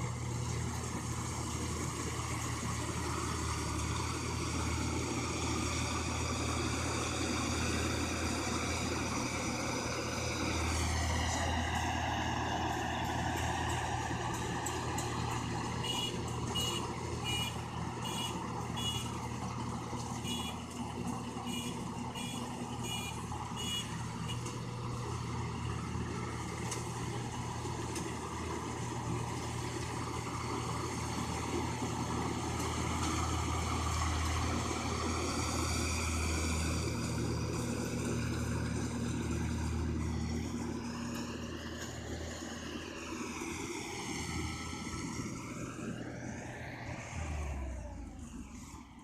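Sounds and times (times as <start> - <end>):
harvester engine running: 0.0 - 49.0.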